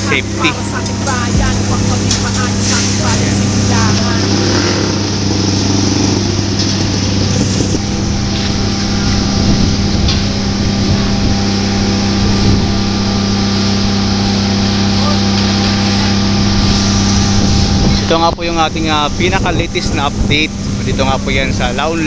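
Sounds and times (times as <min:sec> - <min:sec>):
engine humming: 0:00.0 - 0:22.0
traffic and site noise: 0:00.0 - 0:22.0.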